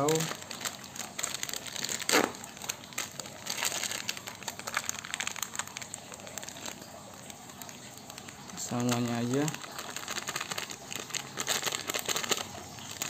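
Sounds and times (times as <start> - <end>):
plastic sachet crinkling: 0.0 - 13.0.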